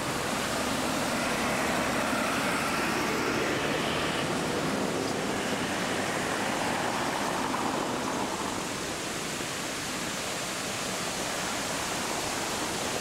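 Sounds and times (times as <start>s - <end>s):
fountain water rushing: 0.0s - 13.0s.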